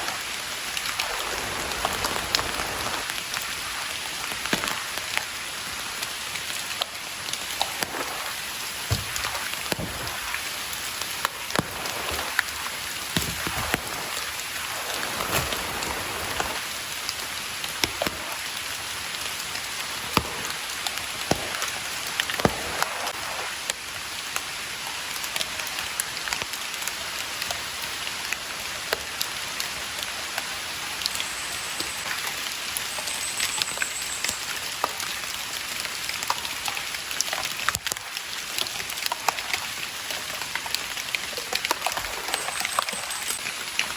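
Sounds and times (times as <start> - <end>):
rain falling: 0.0 - 43.9
raindrops ticking close by: 0.0 - 43.9.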